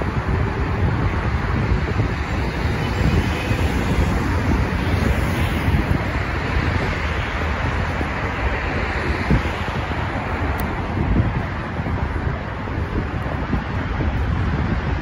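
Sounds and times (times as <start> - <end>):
road traffic noise: 0.0 - 15.0
wind buffeting microphone: 0.0 - 15.0.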